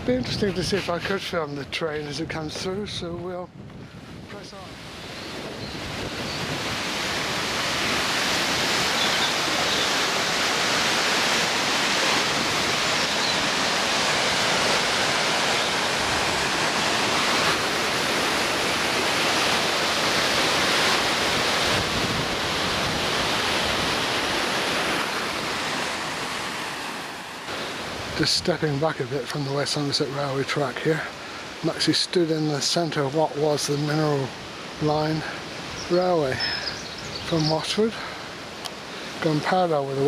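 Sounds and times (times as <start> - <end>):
water rushing over a weir: 4.6 - 36.8.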